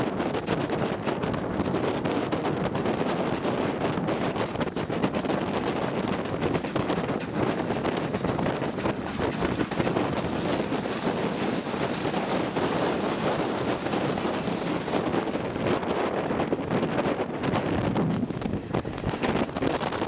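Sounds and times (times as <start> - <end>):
train running noise: 0.0 - 20.0
wind buffeting microphone: 0.0 - 20.0.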